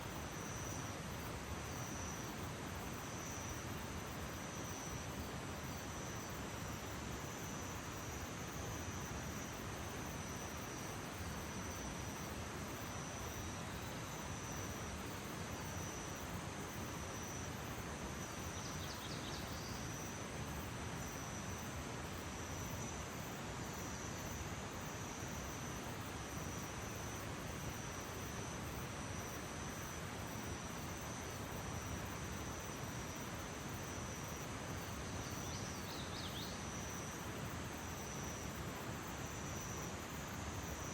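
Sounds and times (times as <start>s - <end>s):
background hiss: 0.0s - 40.9s
insects chirring: 0.0s - 40.9s.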